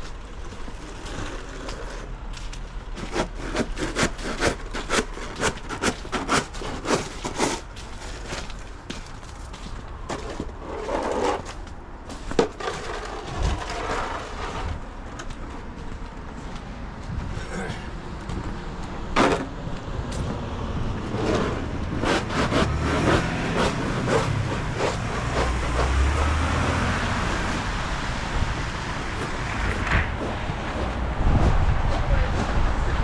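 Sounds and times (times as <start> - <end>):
footsteps on packed snow: 0.0 - 17.3, 21.0 - 31.4.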